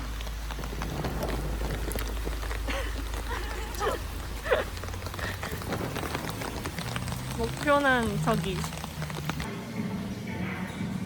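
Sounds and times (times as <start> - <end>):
background hiss: 0.0 - 11.0
faint voices: 0.6 - 11.0.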